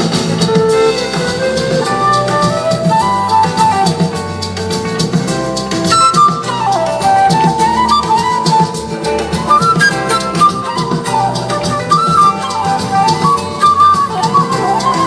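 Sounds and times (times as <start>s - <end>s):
drums steady beat: 0.0s - 15.0s
sliding lead melody: 0.0s - 15.0s.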